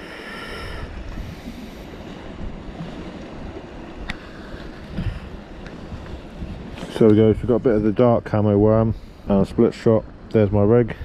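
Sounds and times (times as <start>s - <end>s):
sea surf: 0.0s - 11.0s
wind buffeting microphone: 0.7s - 11.0s.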